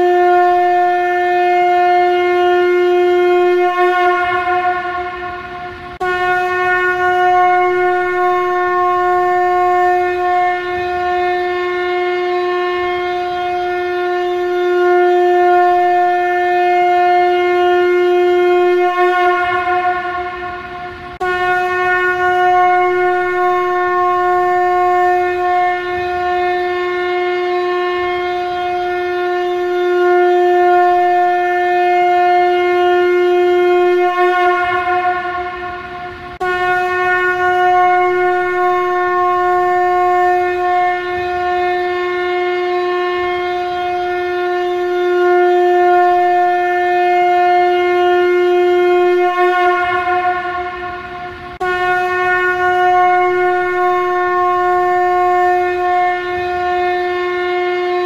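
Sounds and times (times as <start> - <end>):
conch shell trumpet blasts: 0.0 - 58.0.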